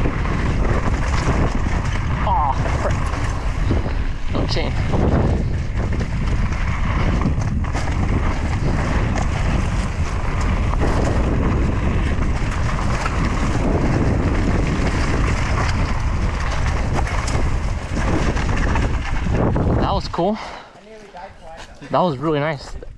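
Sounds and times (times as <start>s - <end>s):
bike rattling clicks: 0.0s - 19.8s
wind rushing over microphone: 0.0s - 20.7s
tyres rumbling on dirt trail: 0.0s - 22.9s.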